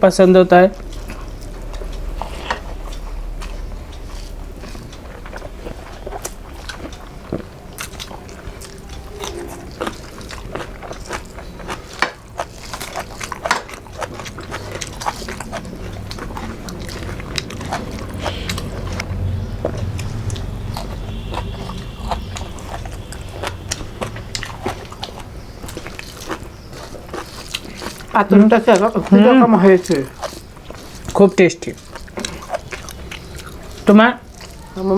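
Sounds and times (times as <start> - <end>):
person chewing soft food: 0.2 - 34.9.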